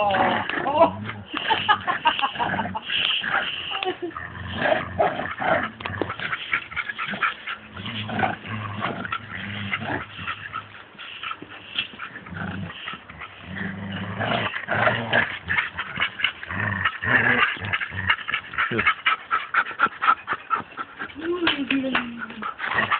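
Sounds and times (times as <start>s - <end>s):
dogs growling: 0.0s - 22.9s.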